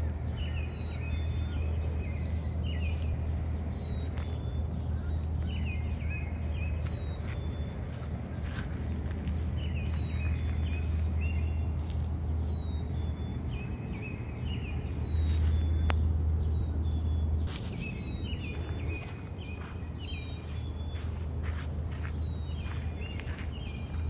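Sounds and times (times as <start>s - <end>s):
songbird chirping: 0.0s - 24.0s
steady low rumble: 0.0s - 24.0s.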